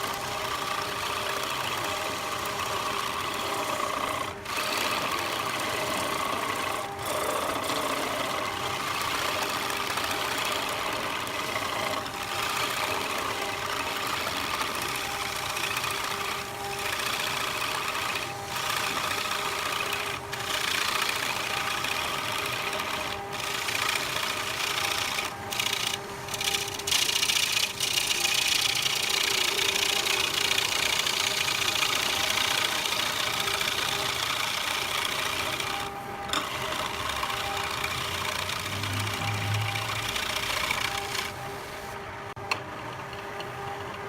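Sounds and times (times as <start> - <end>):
lathe motor hum: 0.0 - 44.0
tool cutting spinning wood: 0.0 - 44.0.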